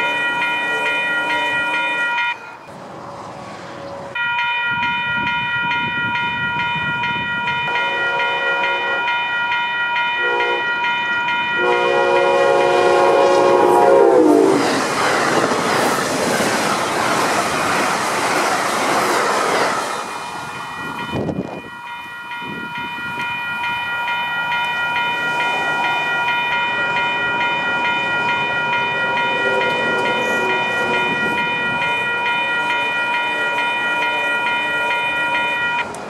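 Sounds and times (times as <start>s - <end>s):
crossing warning bells ringing: 0.0s - 15.8s, 19.5s - 36.0s
train cars rolling on rails: 0.0s - 36.0s.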